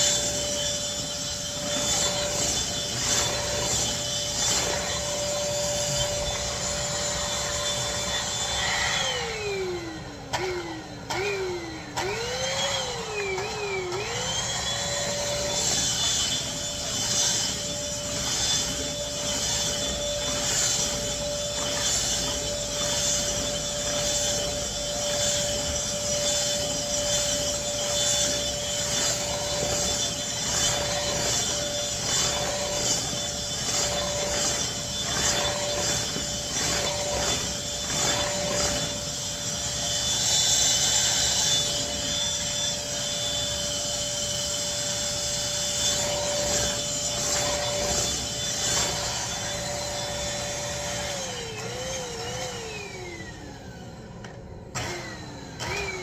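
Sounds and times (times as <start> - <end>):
vacuum cleaner motor whine: 0.0 - 56.0.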